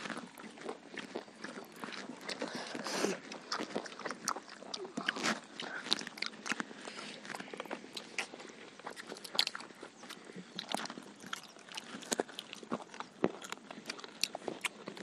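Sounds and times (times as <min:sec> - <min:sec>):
people chewing and crunching food: 0:00.0 - 0:15.0.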